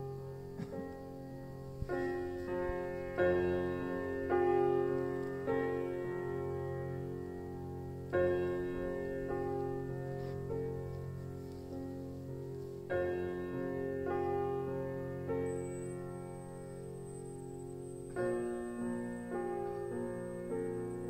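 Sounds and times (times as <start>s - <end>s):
slow piano chords: 0.0s - 21.0s.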